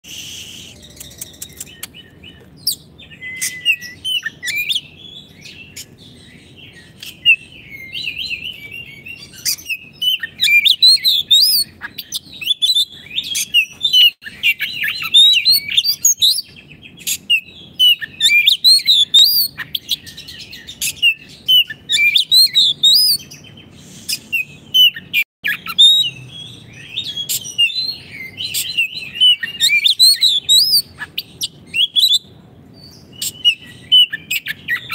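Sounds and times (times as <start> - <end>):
bird singing whistled song: 0.1 - 34.9.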